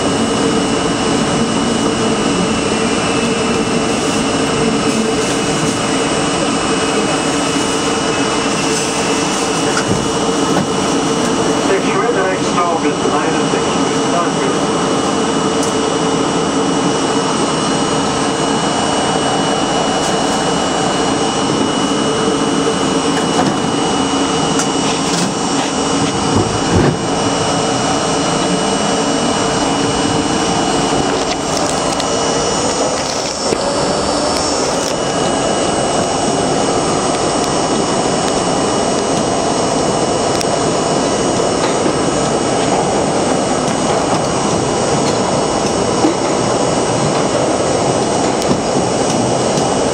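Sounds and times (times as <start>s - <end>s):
subway train running: 0.0s - 49.9s.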